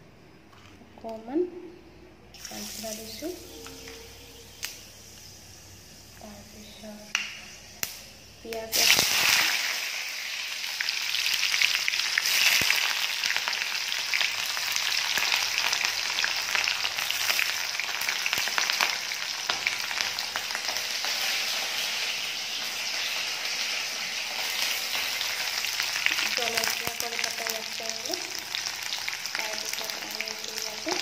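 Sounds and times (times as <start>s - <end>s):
oil sizzling and crackling: 2.3s - 31.0s.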